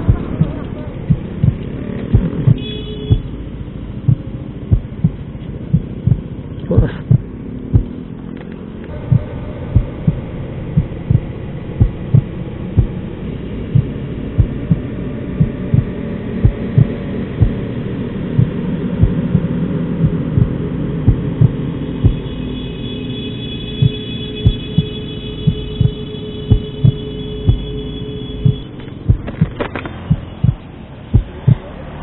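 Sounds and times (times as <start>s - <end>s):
sharp low thuds: 0.0s - 22.3s, 23.8s - 32.0s
motorcycle engine humming: 0.0s - 32.0s.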